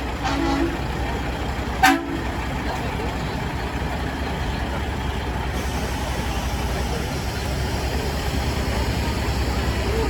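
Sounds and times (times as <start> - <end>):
heavy truck engines rumbling: 0.0 - 10.0.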